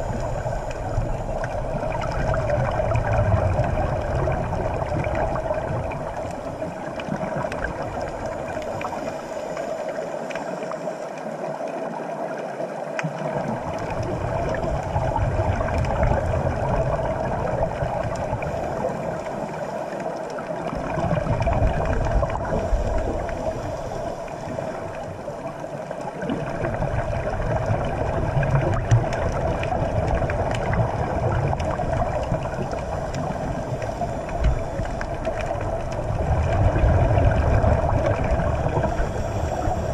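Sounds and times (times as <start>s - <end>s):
underwater droning hum: 0.0s - 39.9s.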